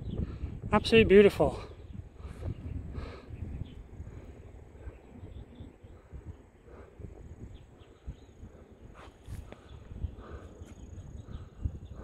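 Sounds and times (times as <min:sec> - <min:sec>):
low rumble on the microphone: 0:00.0 - 0:00.8, 0:01.6 - 0:12.0.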